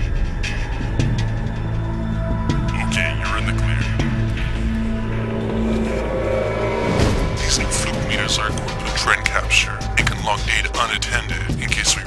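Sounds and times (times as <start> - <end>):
soundtrack music with low drone: 0.0 - 12.0.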